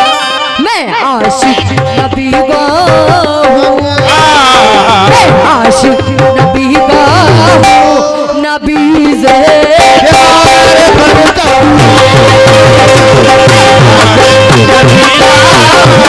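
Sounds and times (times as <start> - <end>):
tabla rhythm: 0.0 - 16.0
wavering vocal melody: 0.5 - 16.0.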